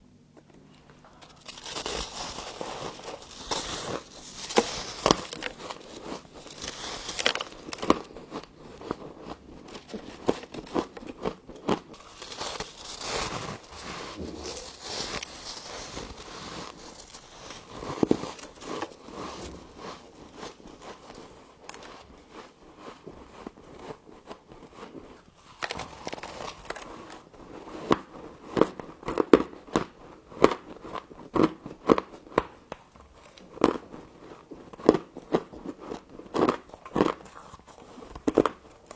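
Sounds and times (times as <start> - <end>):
frost being chewed: 0.4 - 38.9.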